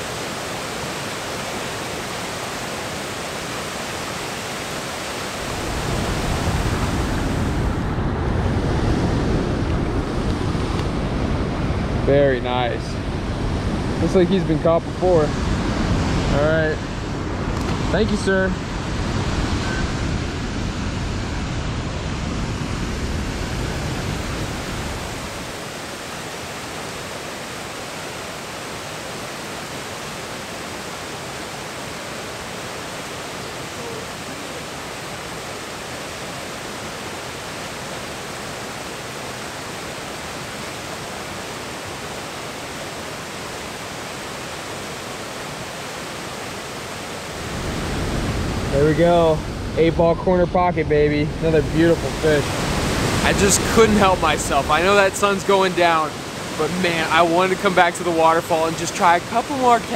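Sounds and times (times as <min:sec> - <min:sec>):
waterfall rushing: 0:00.0 - 0:50.1, 0:51.2 - 0:59.9.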